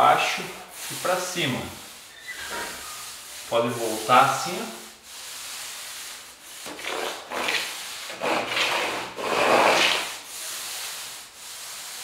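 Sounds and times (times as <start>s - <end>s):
paint roller swishing on wall: 0.0s - 12.0s.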